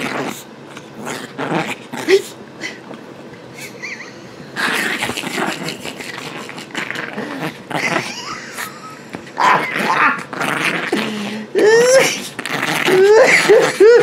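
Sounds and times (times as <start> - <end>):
small dog growling: 0.0 - 3.0, 4.5 - 14.0.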